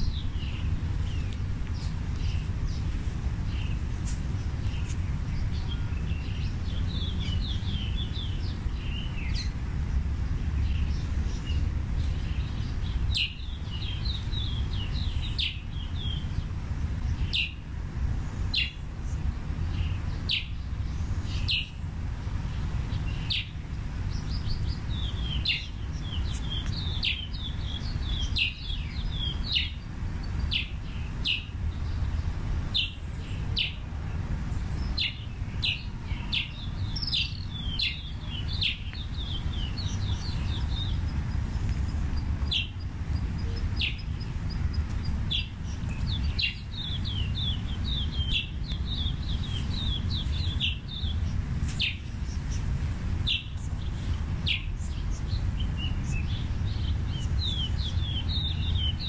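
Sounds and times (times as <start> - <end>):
small birds chirping: 0.0 - 59.0
steady low rumble: 0.0 - 59.0.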